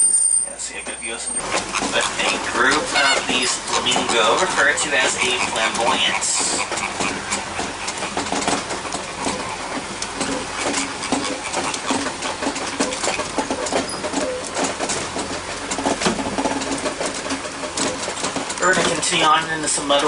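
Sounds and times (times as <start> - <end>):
truck engine running: 0.5 - 20.0
rattles and knocks: 1.4 - 20.0.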